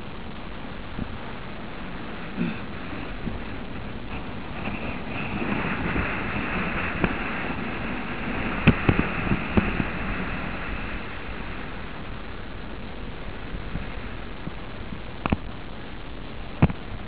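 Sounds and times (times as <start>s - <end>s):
wind on microphone: 0.0s - 17.0s
skis scraping over snow: 0.9s - 15.6s.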